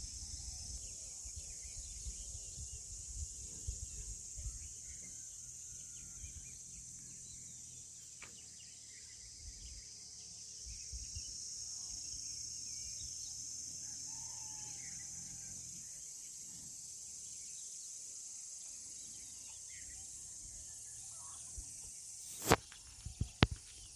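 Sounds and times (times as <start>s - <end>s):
faint bird chirps: 0.0s - 23.9s
high-pitched insect chorus: 0.0s - 23.9s.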